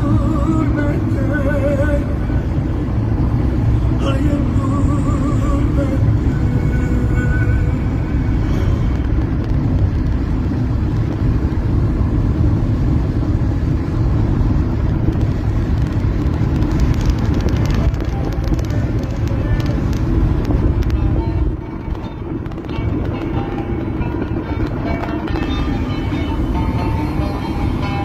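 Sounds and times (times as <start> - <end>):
car road and engine noise: 0.0 - 28.0.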